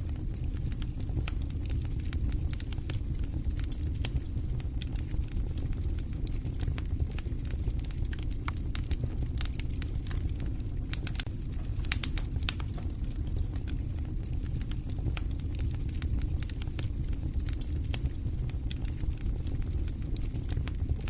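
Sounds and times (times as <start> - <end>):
campfire crackling and popping: 0.0 - 21.0
low steady rumble: 0.0 - 21.0.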